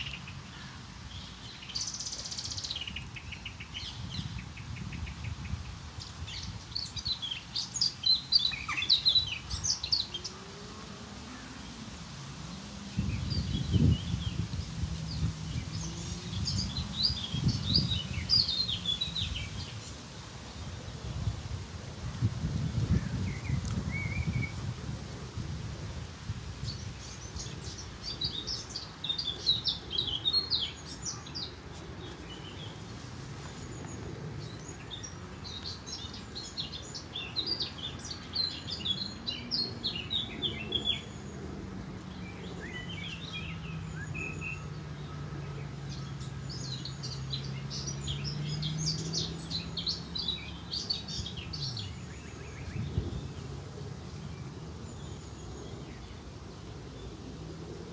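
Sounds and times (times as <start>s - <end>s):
birds chirping: 0.0s - 21.1s, 26.6s - 57.4s.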